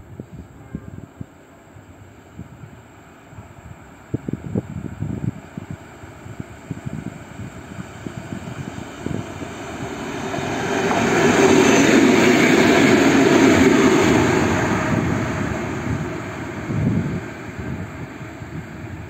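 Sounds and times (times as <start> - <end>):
diesel locomotive engines droning: 0.1 - 19.0.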